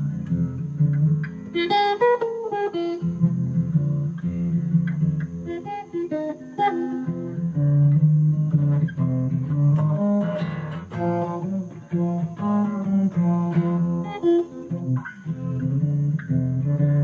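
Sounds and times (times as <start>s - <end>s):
guitar picking and strumming: 0.0s - 17.0s.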